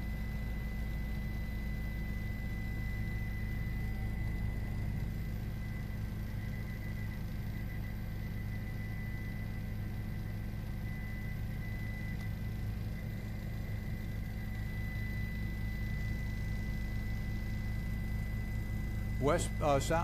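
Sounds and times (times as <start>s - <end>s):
helicopter engine and rotor drone: 0.0s - 20.0s
thin constant whine: 0.0s - 20.0s.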